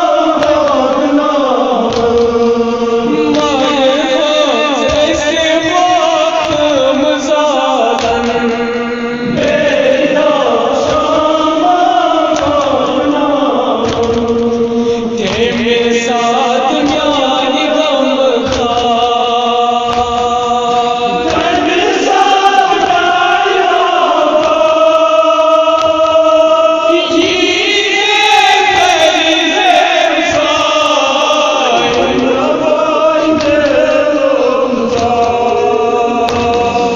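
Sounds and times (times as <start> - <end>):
men chanting a lament: 0.0 - 36.9.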